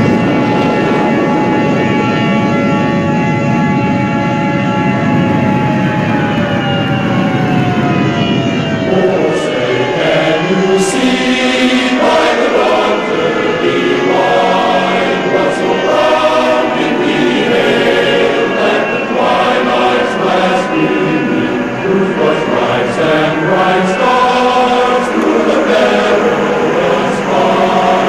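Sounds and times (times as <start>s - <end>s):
choir singing sustained chords: 0.0s - 28.0s
siren winding down: 0.0s - 28.0s.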